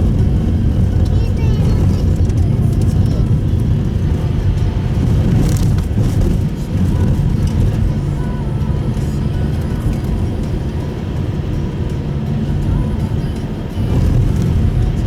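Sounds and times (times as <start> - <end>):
car engine rumble: 0.0 - 15.0
tyres on snowy road: 0.0 - 15.0.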